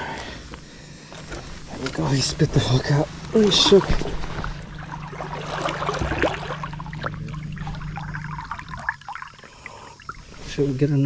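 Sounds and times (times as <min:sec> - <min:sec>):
steady low hum: 0:00.0 - 0:11.0
water splashing against boat hull: 0:01.6 - 0:10.6.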